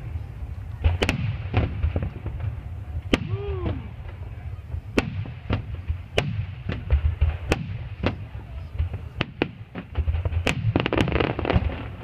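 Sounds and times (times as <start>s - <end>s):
fireworks bursting with sharp bangs: 0.0s - 12.0s
steady low rumble: 0.0s - 12.0s.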